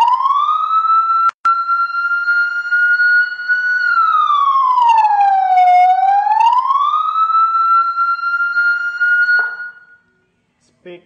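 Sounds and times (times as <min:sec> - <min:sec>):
electronic siren gliding tone: 0:00.0 - 0:10.1.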